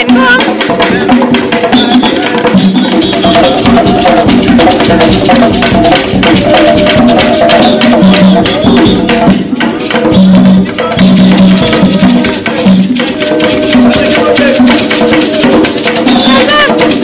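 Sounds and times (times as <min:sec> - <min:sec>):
hand drums playing fast rhythm: 0:00.0 - 0:17.0.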